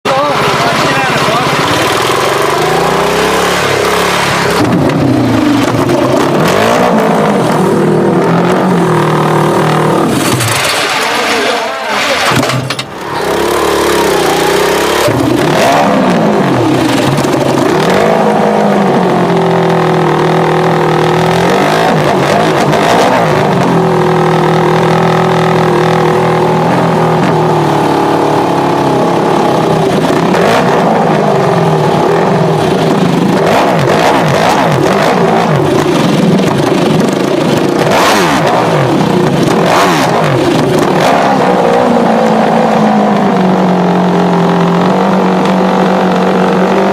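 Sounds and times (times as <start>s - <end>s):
racing motorcycle engine revving: 0.0s - 46.9s
exhaust cracks: 0.1s - 46.9s.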